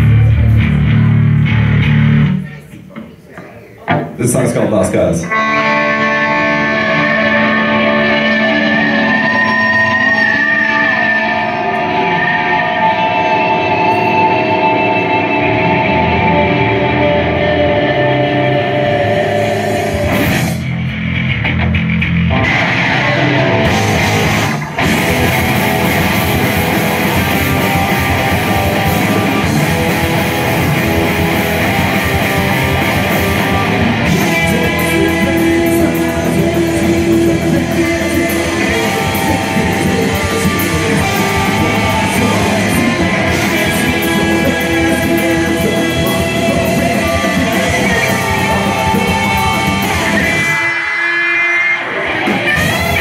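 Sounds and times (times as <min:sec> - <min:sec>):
heavy rock band playing: 0:00.0 - 0:02.6, 0:03.9 - 0:53.0.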